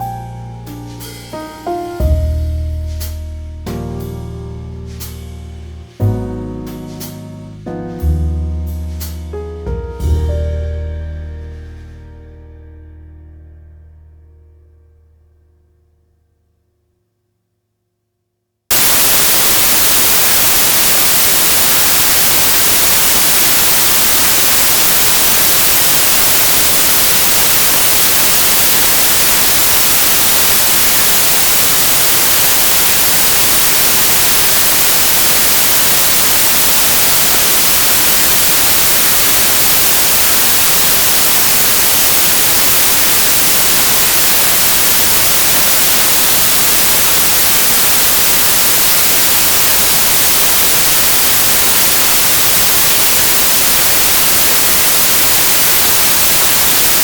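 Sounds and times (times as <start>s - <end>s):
white noise hiss: 0.0s - 12.6s, 18.7s - 57.0s.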